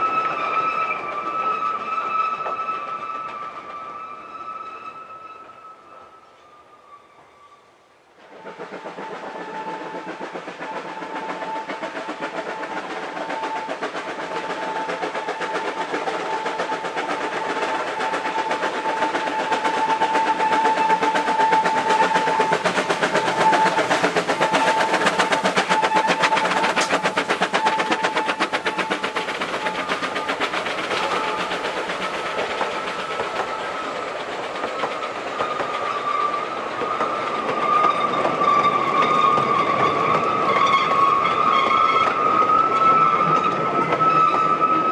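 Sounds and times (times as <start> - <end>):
train coaches rolling by: 0.0 - 44.9
steam locomotive exhaust beats: 8.1 - 44.9.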